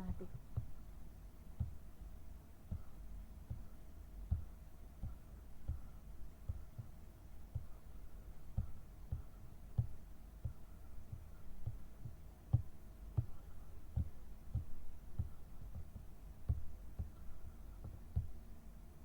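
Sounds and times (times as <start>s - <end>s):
faint steady hum: 0.0s - 19.0s
soft low thumps: 0.0s - 19.0s.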